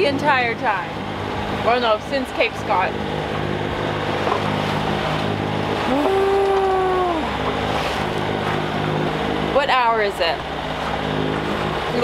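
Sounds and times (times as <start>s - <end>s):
boat engine running: 0.0s - 12.0s
wind and water noise: 0.0s - 12.0s.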